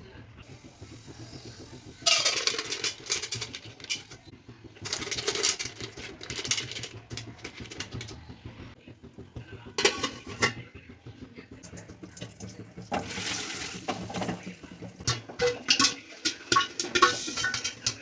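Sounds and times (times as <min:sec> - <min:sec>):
popcorn popping in a pan: 0:00.0 - 0:18.0.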